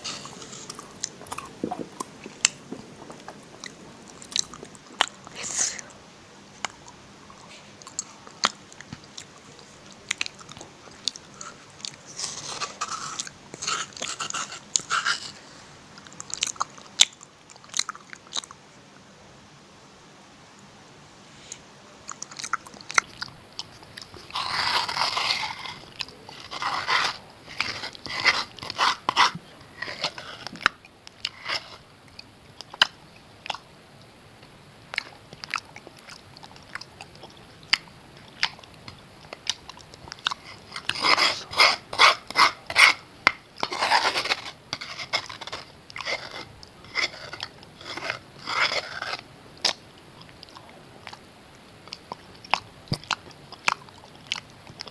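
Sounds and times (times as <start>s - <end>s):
crunchy chewing of slate pencils: 0.0s - 18.6s, 21.4s - 54.9s.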